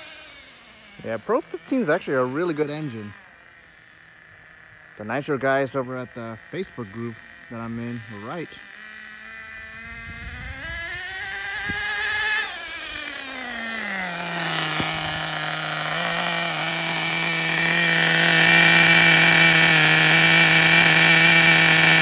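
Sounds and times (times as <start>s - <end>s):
model engine revving and idling: 0.0s - 22.0s.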